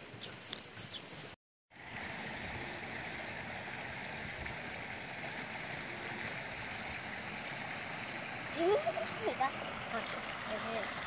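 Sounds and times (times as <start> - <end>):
stream running over rocks: 1.8 - 11.0.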